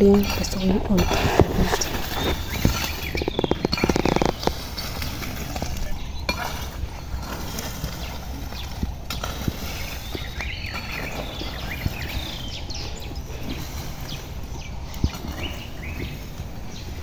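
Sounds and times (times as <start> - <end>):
bird chirps: 0.0 - 6.9, 7.6 - 17.0
wind rumble on microphone: 0.0 - 17.0.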